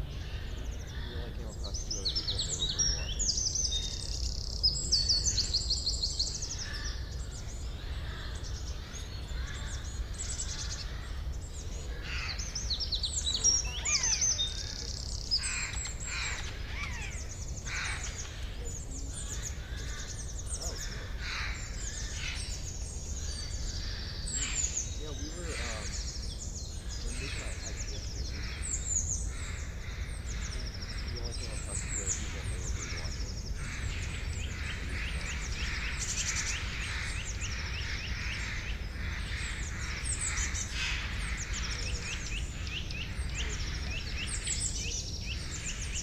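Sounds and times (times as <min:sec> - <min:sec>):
songbirds chirping and trilling: 0:00.0 - 0:46.0.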